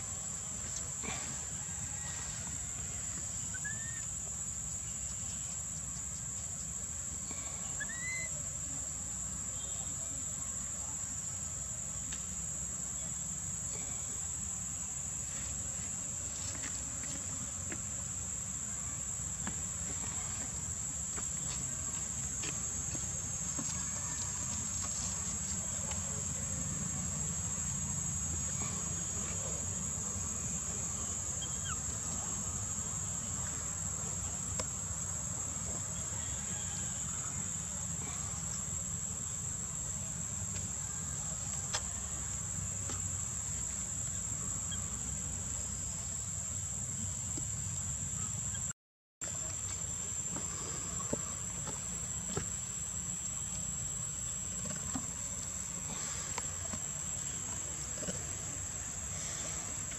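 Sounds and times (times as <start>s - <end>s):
insects chorus: 0.0s - 59.9s.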